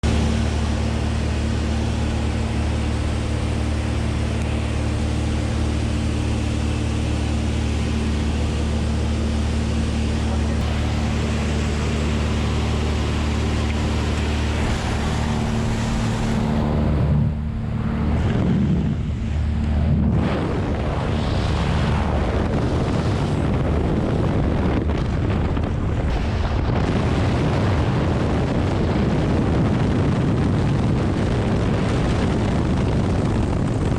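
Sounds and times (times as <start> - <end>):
airplane engine droning: 0.0 - 33.9
loud rush of wind: 0.0 - 33.9
wind noise on microphone: 0.0 - 33.9.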